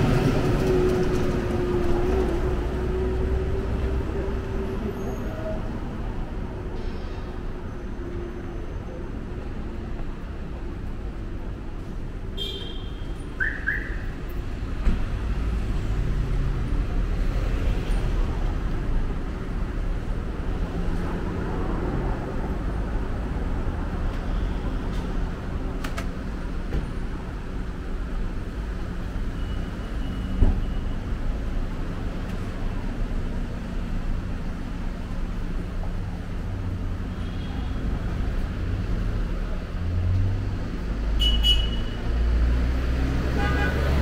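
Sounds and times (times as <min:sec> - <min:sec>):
low rumble of street traffic: 0:00.0 - 0:44.0.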